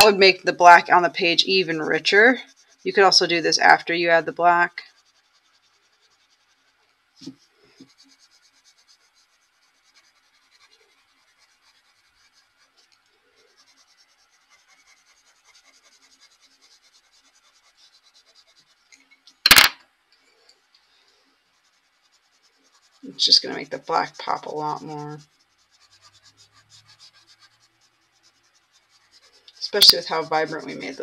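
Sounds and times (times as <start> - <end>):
pencil scratching on paper: 0.0 - 19.6, 20.8 - 31.0.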